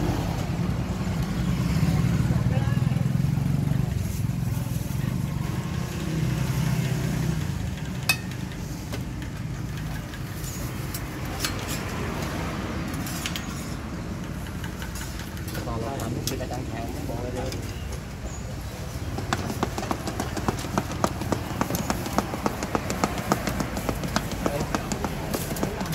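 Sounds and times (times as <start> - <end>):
street noise: 0.0 - 25.9
vehicle engine humming: 0.0 - 25.9.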